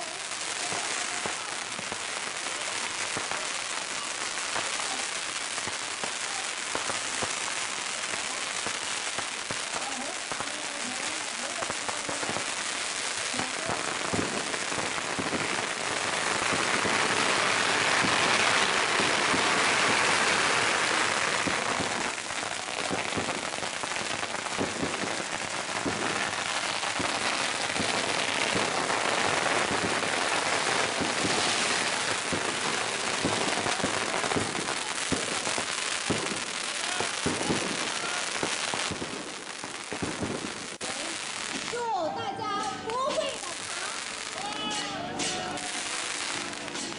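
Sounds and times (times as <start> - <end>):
firecrackers rattling: 0.0 - 41.9, 42.6 - 46.9.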